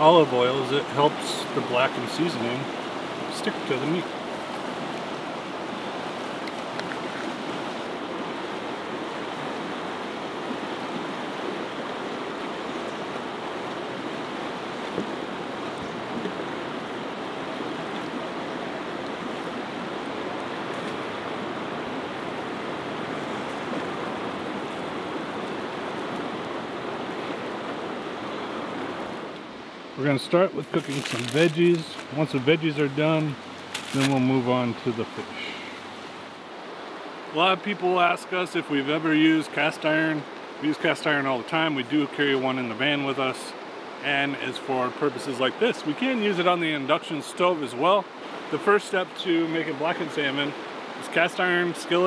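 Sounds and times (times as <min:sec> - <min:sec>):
fast-flowing river rushing: 0:00.0 - 0:52.0.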